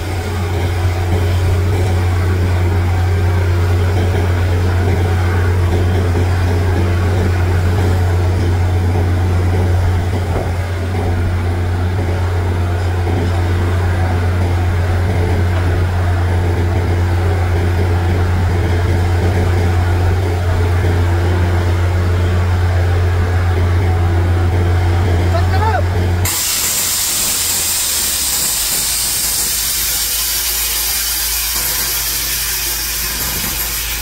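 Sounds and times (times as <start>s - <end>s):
drilling rig and compressor hum: 0.0s - 34.0s.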